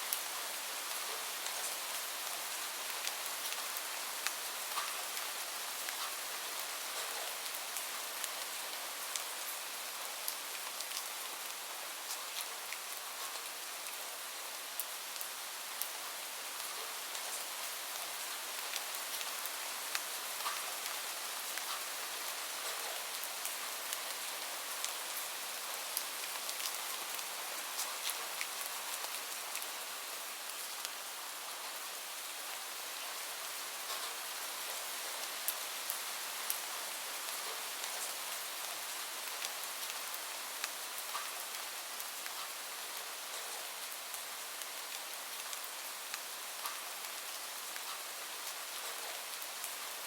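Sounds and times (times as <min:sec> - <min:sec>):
rain hissing on a surface: 0:00.0 - 0:50.0.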